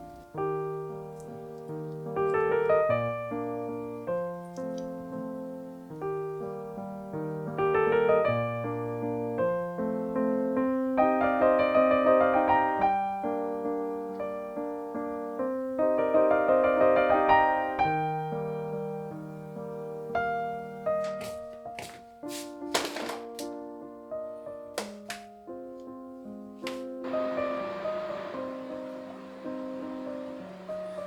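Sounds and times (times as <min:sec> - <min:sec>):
solo piano music: 0:00.0 - 0:31.0.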